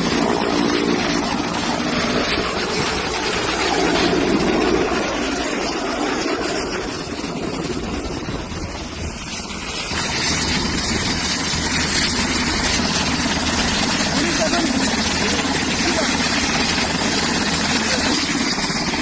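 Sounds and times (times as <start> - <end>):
steady engine noise: 0.0 - 19.0.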